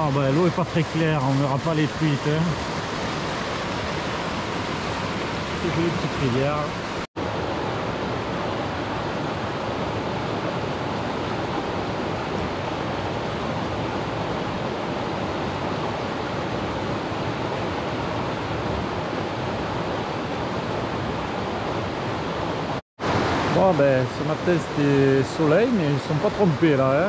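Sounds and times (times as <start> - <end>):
river rushing over rocks: 0.0 - 27.0.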